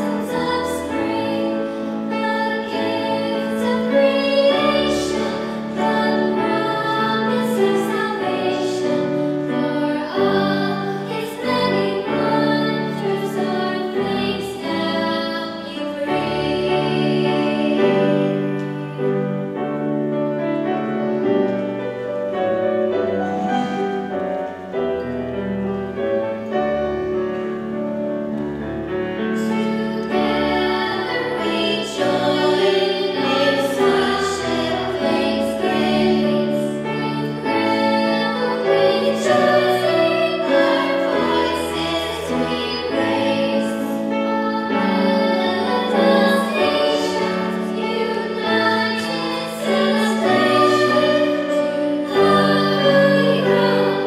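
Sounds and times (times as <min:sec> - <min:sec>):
girls choir singing a hymn: 0:00.0 - 0:54.0
piano accompaniment: 0:00.0 - 0:54.0.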